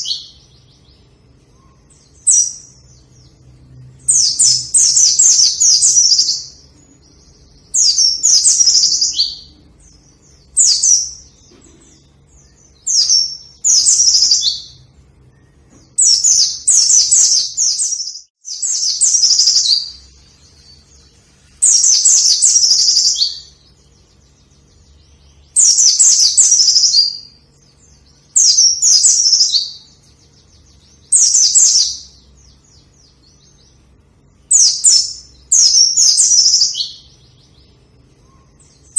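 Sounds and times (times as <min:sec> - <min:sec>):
white-eye twittering song: 0:00.0 - 0:38.9.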